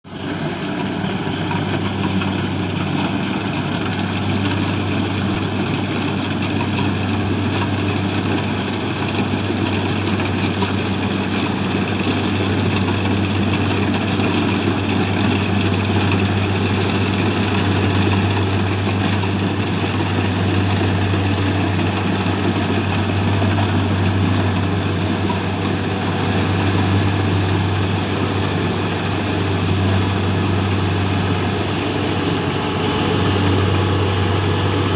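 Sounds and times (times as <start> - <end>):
harvesting machine engine humming: 0.1 - 34.9.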